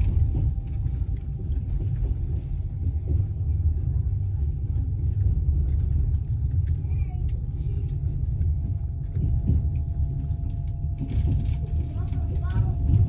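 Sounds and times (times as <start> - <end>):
train rumbling over rails: 0.0 - 13.0.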